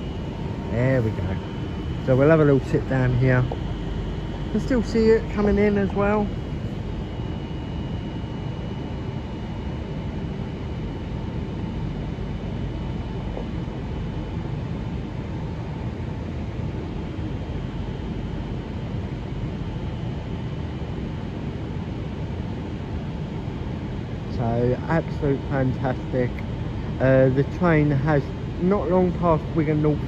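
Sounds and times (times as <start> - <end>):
faint high-pitched hums: 0.0 - 30.0.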